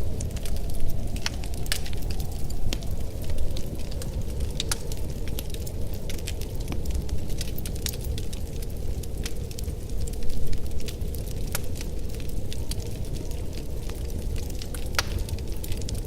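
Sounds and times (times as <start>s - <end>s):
wood stove fire crackling: 0.0s - 16.0s.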